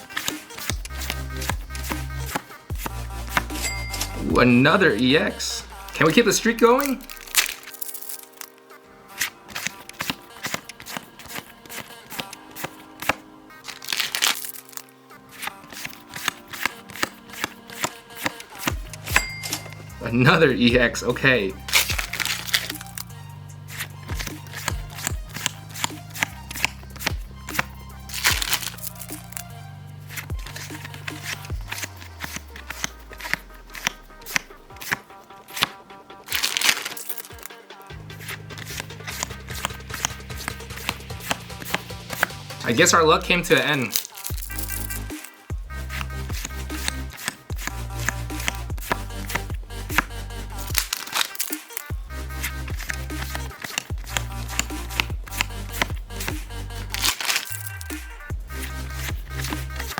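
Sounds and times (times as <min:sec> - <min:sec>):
background music: 0:00.0 - 0:59.9
trading cards clicking and flicking: 0:00.0 - 0:59.9.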